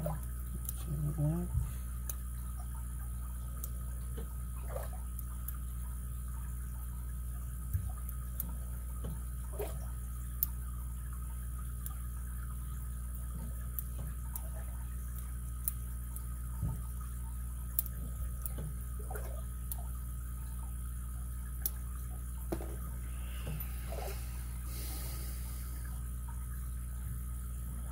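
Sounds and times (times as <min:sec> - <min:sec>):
background hum: 0:00.0 - 0:27.9.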